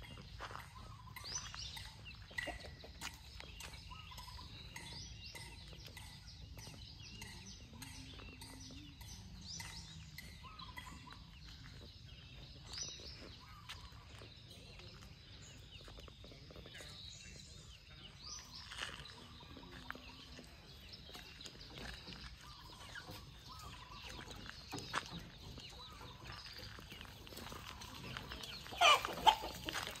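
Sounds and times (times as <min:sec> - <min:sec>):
birds chirping and twittering: 0:00.0 - 0:30.0.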